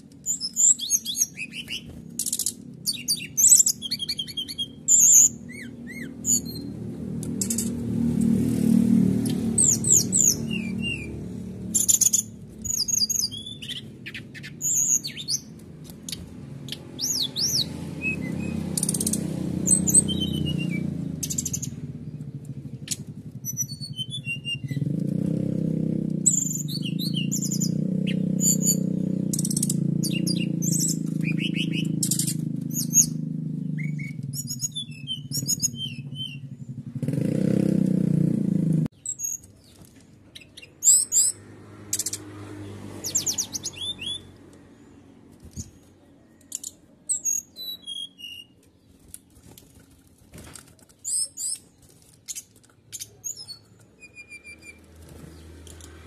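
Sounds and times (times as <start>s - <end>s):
bird singing trills and chirps: 0.0s - 38.1s, 38.9s - 50.1s, 50.7s - 56.0s.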